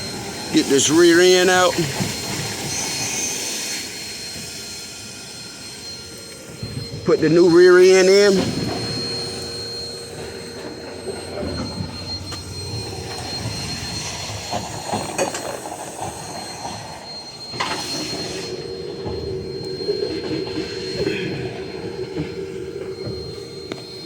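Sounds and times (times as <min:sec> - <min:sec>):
noisy hum: 0:00.0 - 0:24.0
steady mechanical whine: 0:00.0 - 0:24.0.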